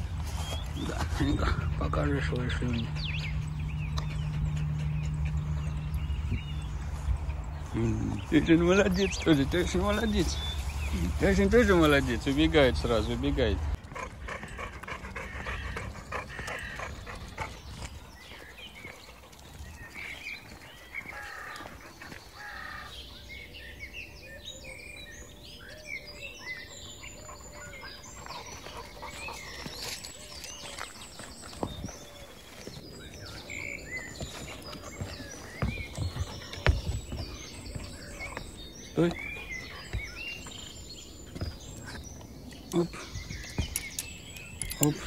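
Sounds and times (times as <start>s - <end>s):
outdoor background noise: 0.0s - 45.0s
small birds chirping: 0.0s - 45.0s.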